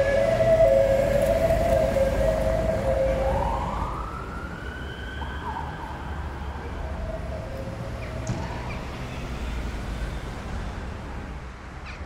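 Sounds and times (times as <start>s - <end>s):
emergency vehicle siren: 0.0s - 10.6s
street traffic rumble: 0.0s - 12.0s.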